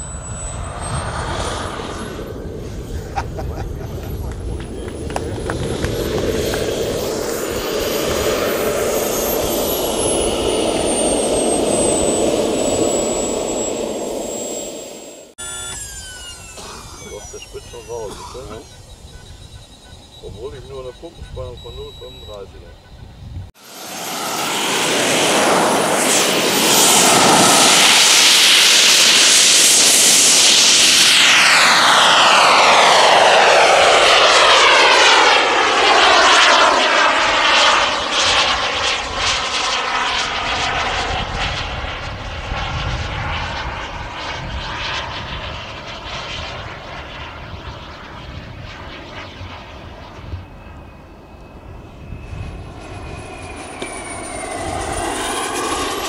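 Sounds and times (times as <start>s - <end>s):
jet flying past whoosh: 0.0s - 15.4s, 23.5s - 56.0s
model jet turbine engine roaring: 0.0s - 56.0s.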